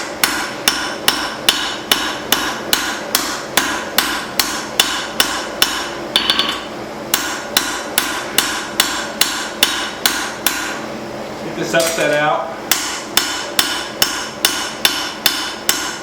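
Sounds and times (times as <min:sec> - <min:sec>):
hammer striking steel on anvil: 0:00.0 - 0:10.8, 0:11.8 - 0:16.0.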